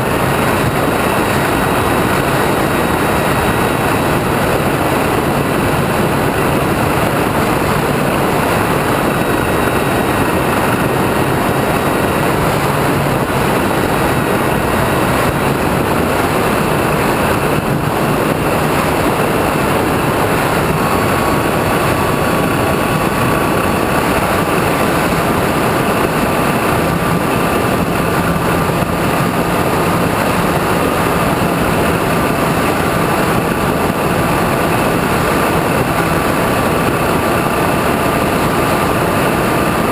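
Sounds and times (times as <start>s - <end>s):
motor and propeller running: 0.0s - 39.9s
thin whine: 0.0s - 39.9s
wind rushing over airframe: 0.0s - 39.9s.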